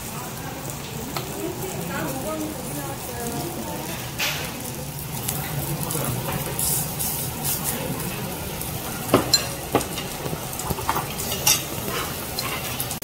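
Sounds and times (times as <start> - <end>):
ribs sizzling on a grill: 0.0 - 13.0.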